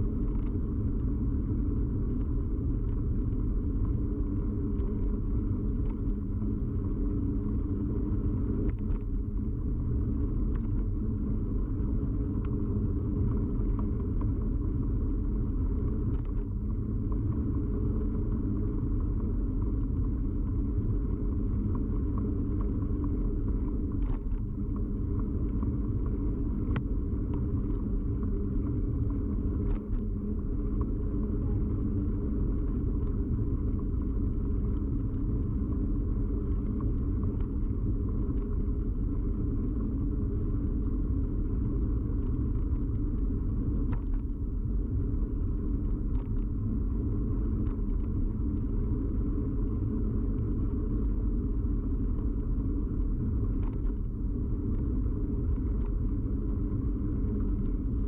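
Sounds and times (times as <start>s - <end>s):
bicycle rumble and road noise: 0.0s - 58.0s.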